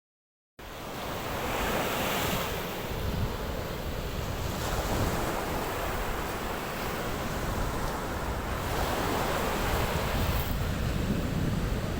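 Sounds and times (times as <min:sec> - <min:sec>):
sea waves washing on sand: 0:00.6 - 0:11.9
wind buffeting microphone: 0:01.2 - 0:11.9.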